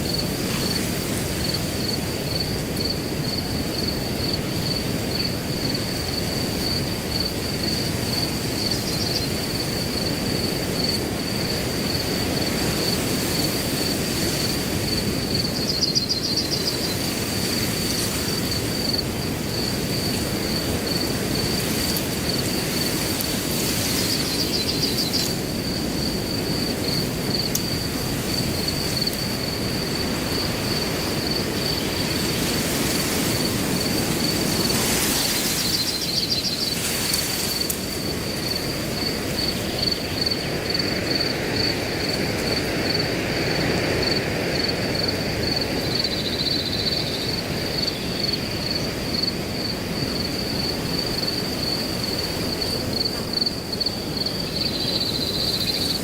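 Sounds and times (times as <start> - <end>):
cricket chirping: 0.0 - 56.0
wind through grass: 0.0 - 56.0.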